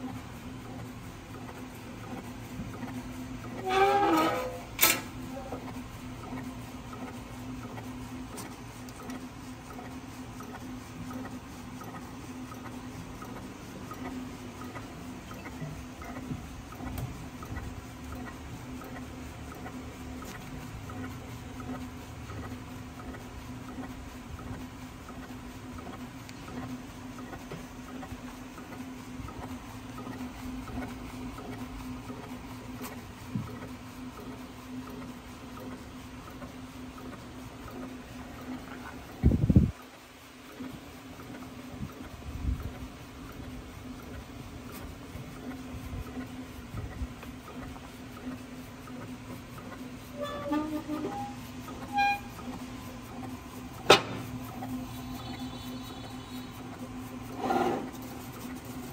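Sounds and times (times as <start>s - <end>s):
cutting plotter motor hum: 0.0s - 58.9s.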